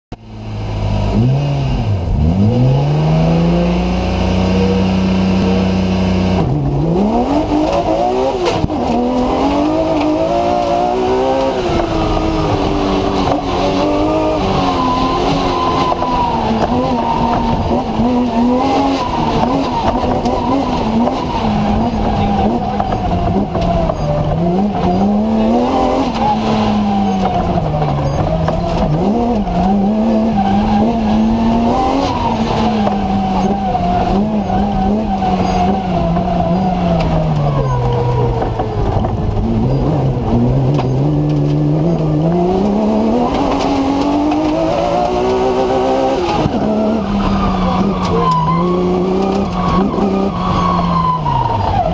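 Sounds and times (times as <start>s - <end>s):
car engine revving: 0.1s - 51.9s.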